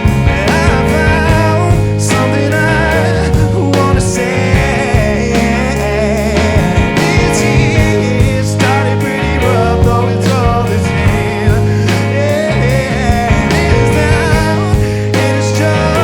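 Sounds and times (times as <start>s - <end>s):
indie rock band playing: 0.0s - 16.0s.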